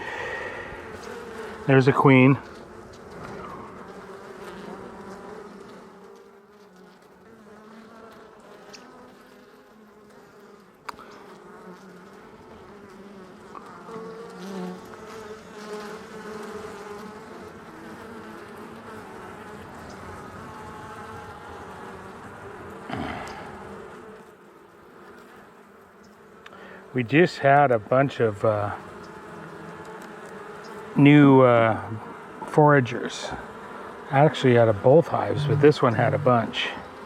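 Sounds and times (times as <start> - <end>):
bees buzzing: 0.0 - 37.0.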